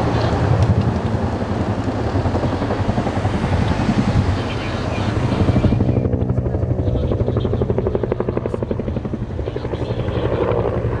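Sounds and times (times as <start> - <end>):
helicopter rotor blades beating: 0.0 - 11.0.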